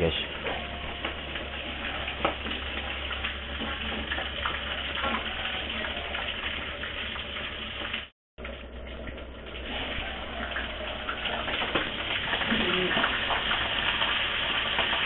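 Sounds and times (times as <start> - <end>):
chicken frying in oil: 0.0 - 15.0.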